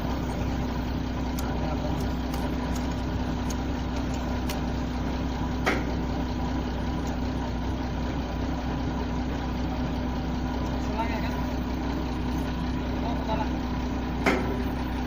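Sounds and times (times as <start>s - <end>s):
excavator diesel engine idling: 0.0s - 15.0s.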